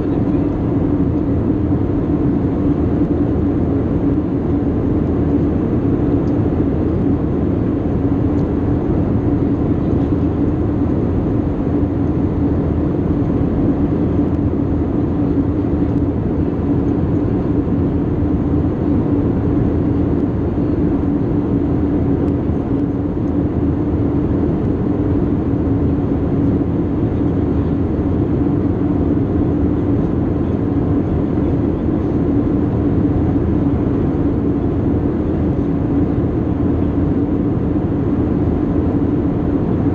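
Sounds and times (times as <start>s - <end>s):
jet engine drone: 0.0s - 39.9s
steady low hum: 0.0s - 39.9s.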